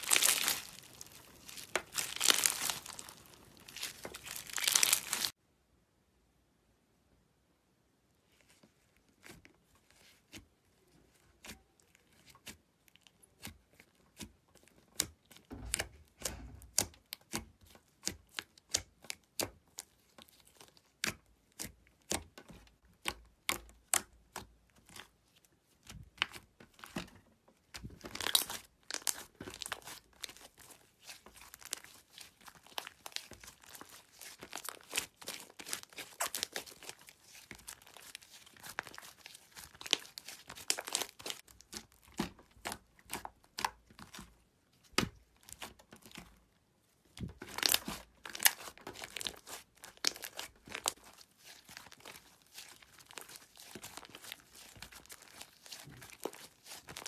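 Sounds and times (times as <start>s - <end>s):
hands squishing slime: 0.0s - 5.3s, 9.1s - 57.0s.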